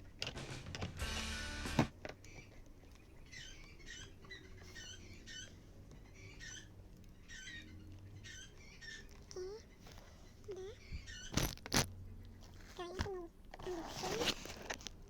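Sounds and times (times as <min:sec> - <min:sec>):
small bird chirping: 0:02.0 - 0:14.3.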